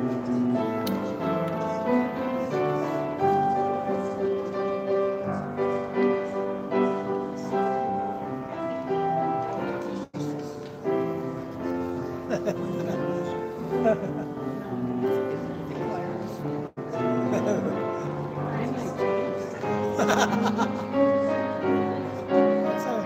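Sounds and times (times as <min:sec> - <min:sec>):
grand piano playing chords: 0:00.0 - 0:23.0.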